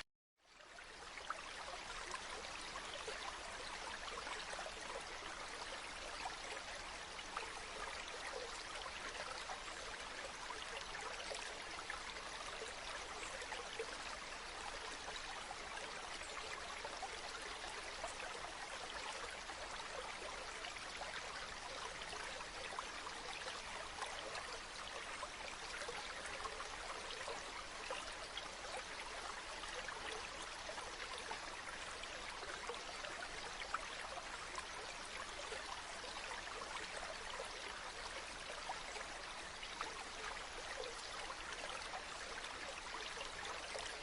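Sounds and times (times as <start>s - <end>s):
river flowing: 0.5s - 44.0s.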